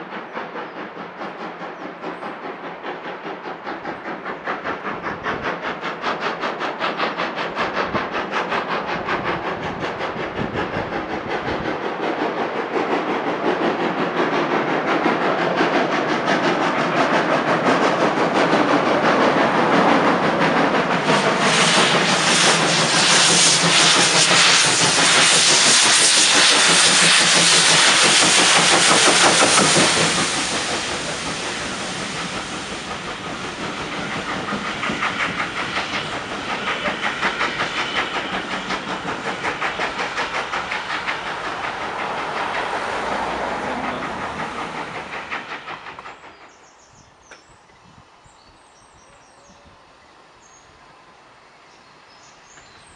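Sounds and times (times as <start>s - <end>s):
train wheels clattering on rails: 0.0s - 48.0s, 52.2s - 52.9s
steam locomotive exhaust beats: 0.0s - 49.8s
rush of steam: 0.0s - 52.9s.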